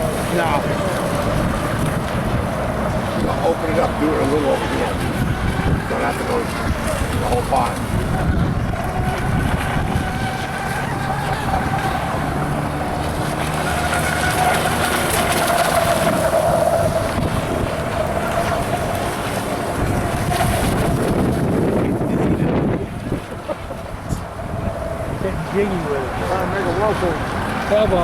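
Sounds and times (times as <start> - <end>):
model boat motor whining: 0.0 - 28.0
wind rumble on microphone: 0.0 - 28.0.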